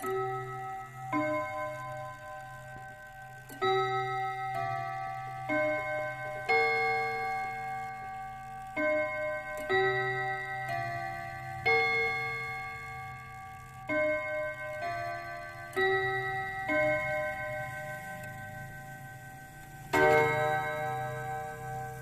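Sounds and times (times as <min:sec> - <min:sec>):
clock chime melody on metal rods: 0:00.0 - 0:22.0.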